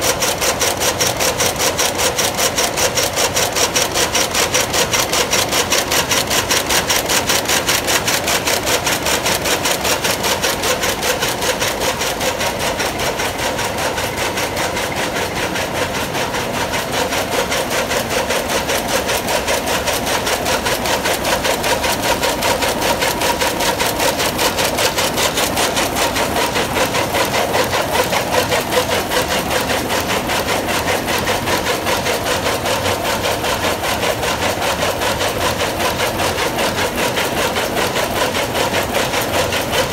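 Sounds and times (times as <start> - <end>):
loom mechanical clatter: 0.0 - 39.9.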